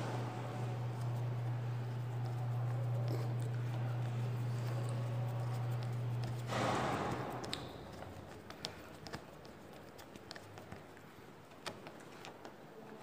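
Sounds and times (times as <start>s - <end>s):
hands tapping plastic fan grille: 1.4s - 13.0s.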